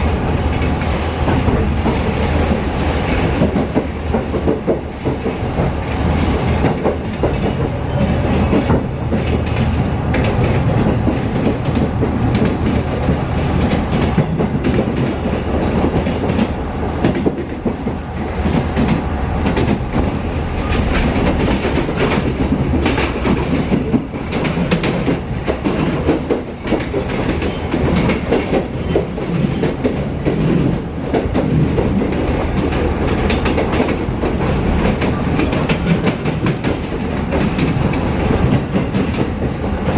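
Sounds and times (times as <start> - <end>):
train rumbling on rails: 0.0 - 39.9
wheels clacking over rail joints: 0.5 - 39.9.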